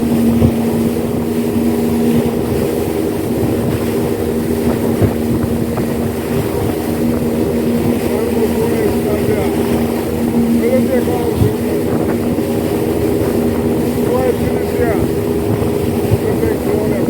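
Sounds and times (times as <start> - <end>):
rushing water: 0.0 - 17.0
speedboat engine running: 0.0 - 17.0
wind: 0.0 - 17.0.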